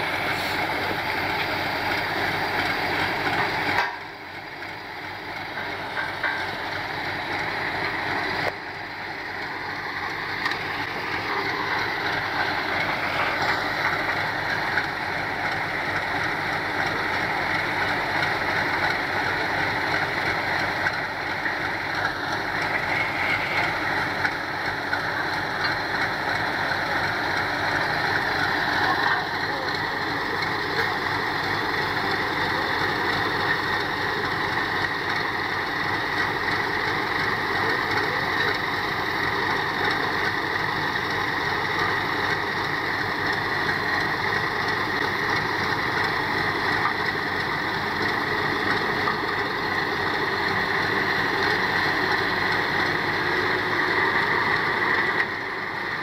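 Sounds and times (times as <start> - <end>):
heavy truck engine idling: 0.0 - 56.0.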